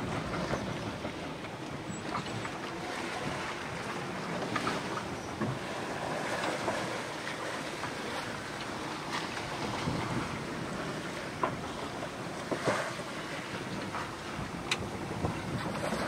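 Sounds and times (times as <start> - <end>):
water rushing along boat hull: 0.0 - 16.0
wind buffeting microphone: 0.0 - 16.0.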